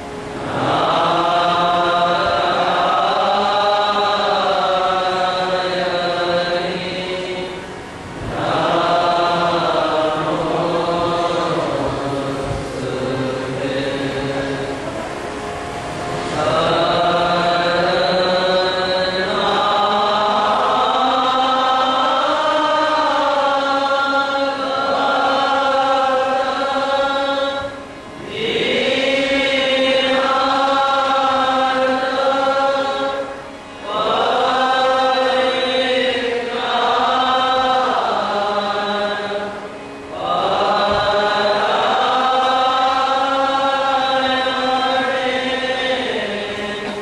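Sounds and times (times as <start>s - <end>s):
voices chanting a hymn: 0.0s - 47.0s.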